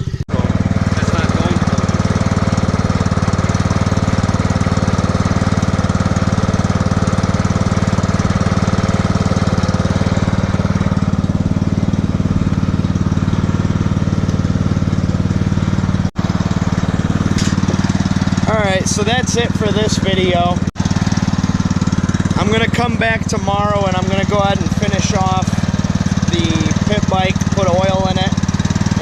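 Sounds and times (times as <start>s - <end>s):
small motorcycle engine running: 0.0s - 29.0s.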